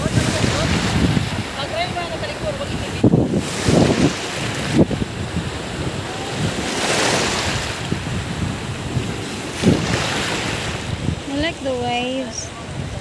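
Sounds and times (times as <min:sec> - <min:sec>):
waves breaking on a beach: 0:00.0 - 0:13.0
wind buffeting microphone: 0:00.0 - 0:13.0.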